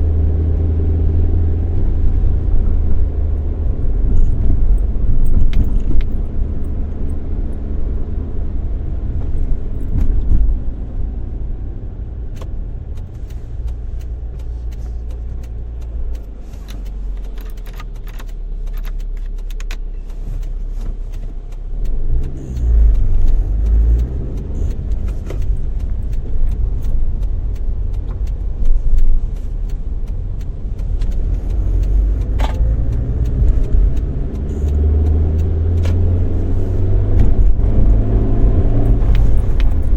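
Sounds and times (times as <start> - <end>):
car engine and road rumble: 0.0 - 39.9
interior clicks and rattles: 1.6 - 10.9, 12.2 - 39.9.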